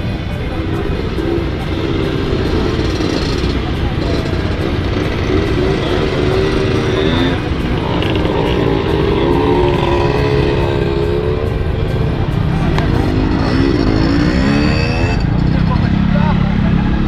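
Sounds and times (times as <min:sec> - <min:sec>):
motorcycle engines running: 0:00.0 - 0:17.0
voices in background: 0:00.0 - 0:17.0.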